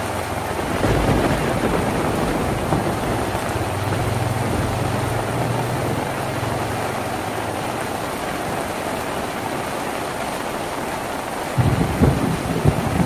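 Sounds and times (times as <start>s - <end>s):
rain on a tin roof: 0.0s - 13.0s.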